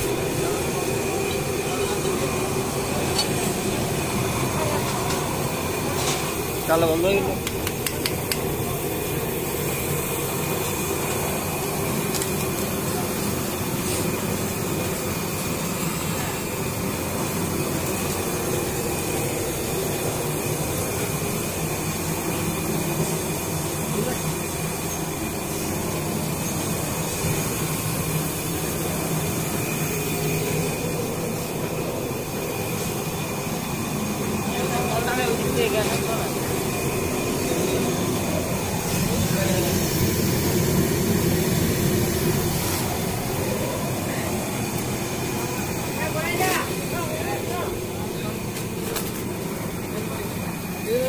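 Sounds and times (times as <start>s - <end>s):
machine drone and hiss: 0.0s - 51.0s.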